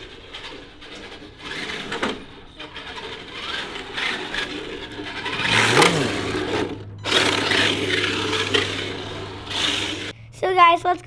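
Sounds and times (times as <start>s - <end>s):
rc car motor whirring: 0.0s - 10.2s.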